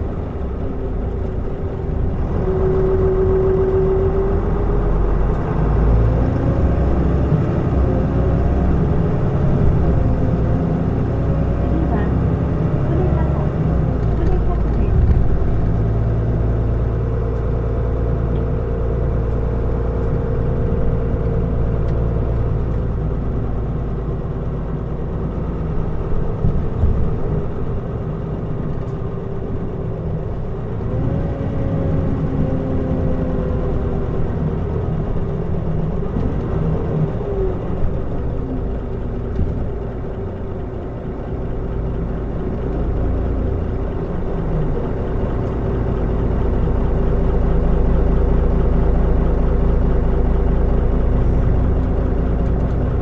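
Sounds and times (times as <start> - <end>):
bus diesel engine drone: 0.0 - 53.0
road rumble: 0.0 - 53.0.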